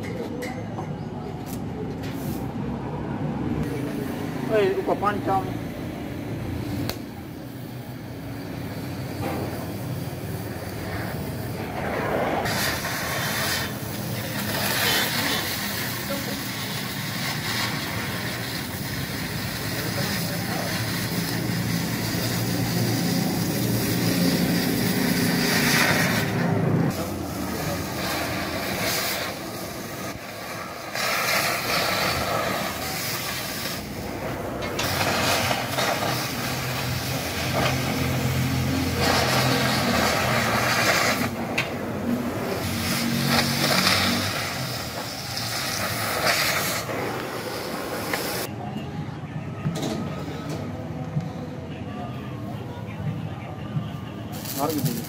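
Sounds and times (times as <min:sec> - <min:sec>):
cutting torch hissing: 0:03.6 - 0:48.5, 0:54.3 - 0:55.0.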